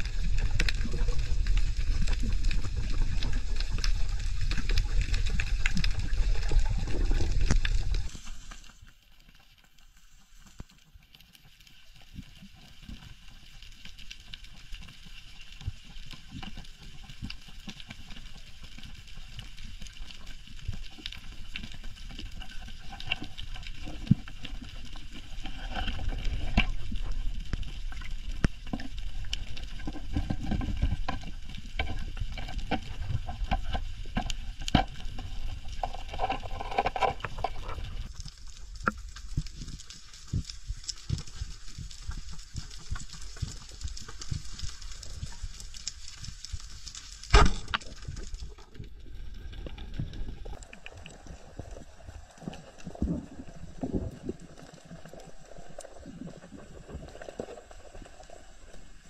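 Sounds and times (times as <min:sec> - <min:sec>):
underwater clicks and crackles: 0:00.0 - 0:59.0.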